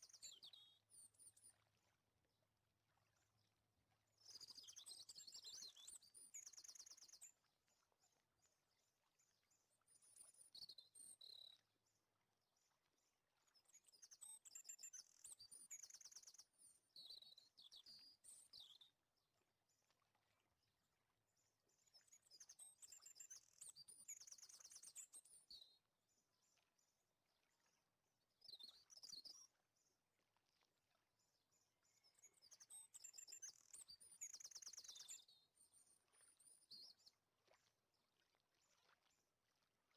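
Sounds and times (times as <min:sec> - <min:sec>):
faint bird chirping: 0:00.0 - 0:02.0, 0:04.1 - 0:19.4, 0:21.4 - 0:27.8, 0:28.4 - 0:29.9, 0:31.3 - 0:39.1.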